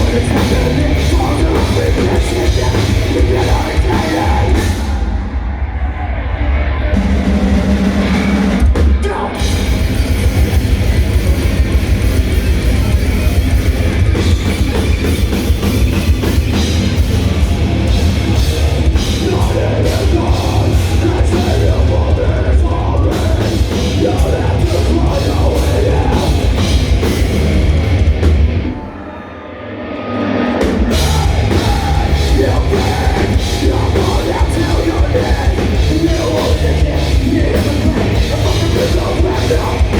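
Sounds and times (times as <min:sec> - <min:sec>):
fast drumming on drum kit: 0:00.0 - 0:05.2, 0:07.0 - 0:28.6, 0:30.6 - 0:39.9
distorted guitars: 0:00.0 - 0:39.9
live heavy metal band: 0:00.0 - 0:39.9.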